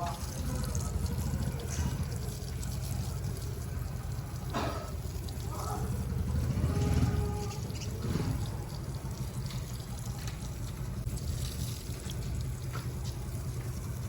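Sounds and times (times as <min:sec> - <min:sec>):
water from hose splashing: 0:00.0 - 0:14.0.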